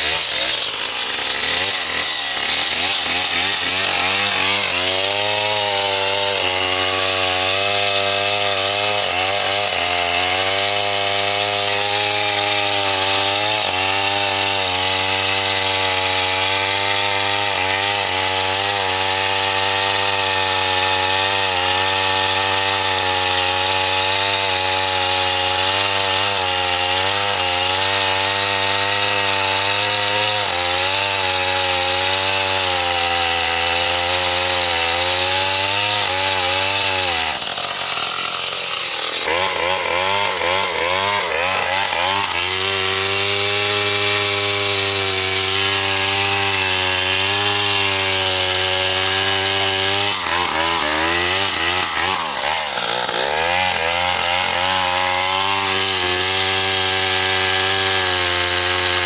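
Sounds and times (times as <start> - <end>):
chainsaw cutting into tree: 0.0 - 59.0.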